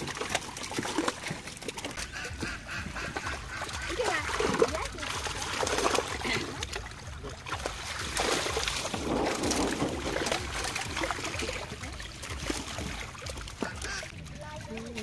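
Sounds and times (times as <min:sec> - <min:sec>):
fish thrashing and splashing in water: 0:00.0 - 0:15.0.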